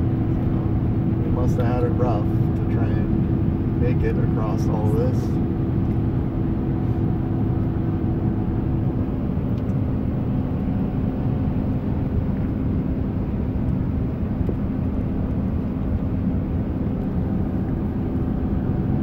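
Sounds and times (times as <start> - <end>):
car driving road and engine noise: 0.0 - 19.0.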